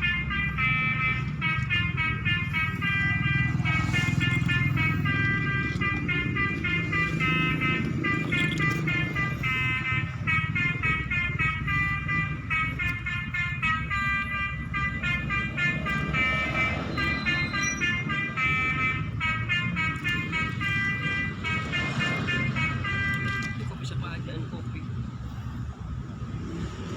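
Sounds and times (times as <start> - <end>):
multi-tone horn melody: 0.0 - 24.8
low steady rumble: 0.0 - 26.3.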